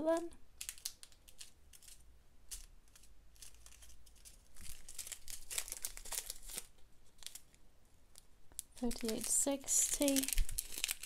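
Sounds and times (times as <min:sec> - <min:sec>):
plastic bags crinkling: 0:00.5 - 0:07.6, 0:08.5 - 0:11.0.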